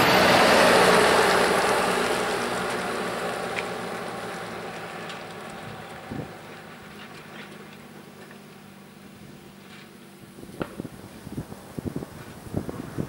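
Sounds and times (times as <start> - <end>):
tractor driving past: 0.0 - 13.0.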